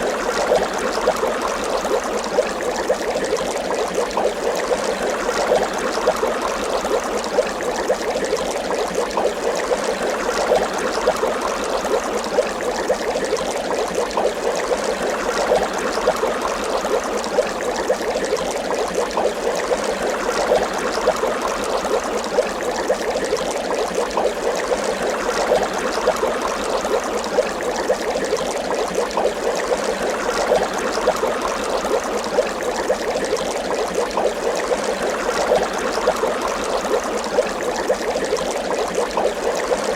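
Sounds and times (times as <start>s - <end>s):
water bubbling and gurgling: 0.0s - 39.9s.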